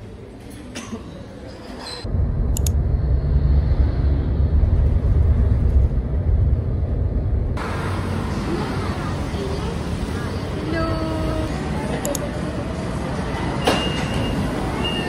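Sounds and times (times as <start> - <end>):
engine and road rumble: 2.0 - 15.0.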